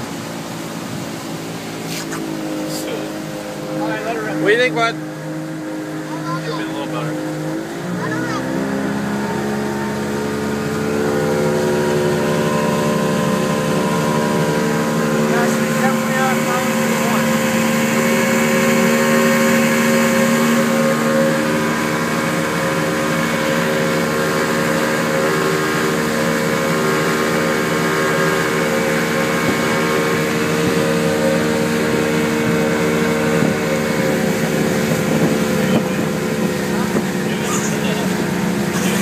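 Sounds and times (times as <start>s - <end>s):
motorboat engine running: 0.0s - 39.0s
water rushing past hull: 0.0s - 39.0s
wind: 0.0s - 39.0s.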